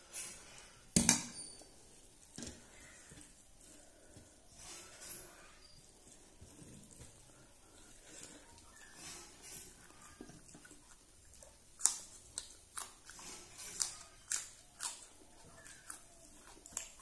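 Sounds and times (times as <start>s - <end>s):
crunching chilli: 0.0s - 17.0s
soft chewing: 0.0s - 17.0s.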